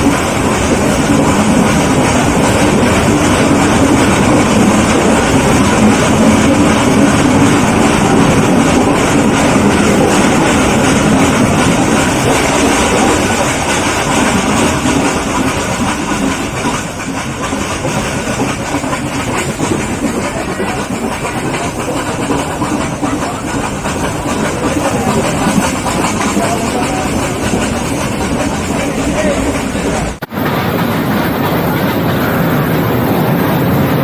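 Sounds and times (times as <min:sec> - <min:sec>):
steam hissing: 0:00.0 - 0:34.0
train rumbling: 0:00.0 - 0:34.0.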